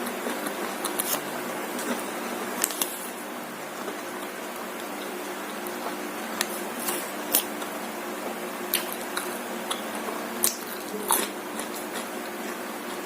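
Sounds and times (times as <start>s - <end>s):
crunchy chewing: 0.0s - 3.2s, 3.8s - 13.0s
steady low hum: 0.0s - 13.0s.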